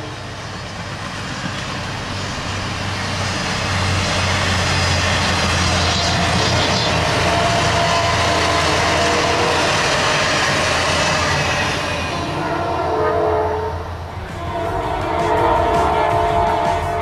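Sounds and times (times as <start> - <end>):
railcars rumbling on rails: 0.0 - 17.0.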